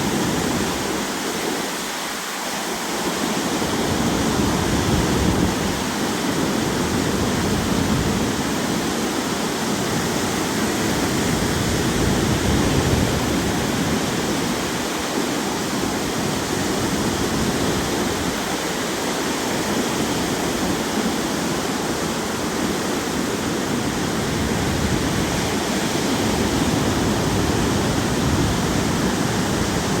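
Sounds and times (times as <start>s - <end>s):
waves breaking on shore: 0.0s - 30.0s
wind buffeting microphone: 3.4s - 30.0s.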